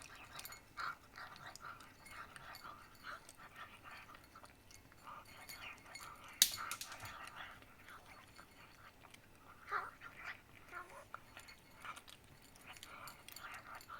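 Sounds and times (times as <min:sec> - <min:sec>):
cat chewing: 0:00.0 - 0:06.4, 0:07.0 - 0:13.9.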